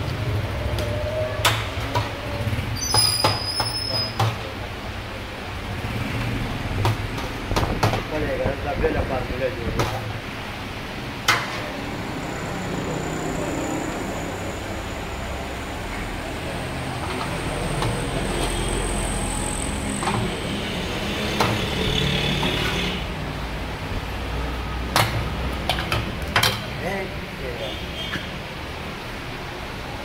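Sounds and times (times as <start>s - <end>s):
street traffic hum: 0.0s - 30.0s.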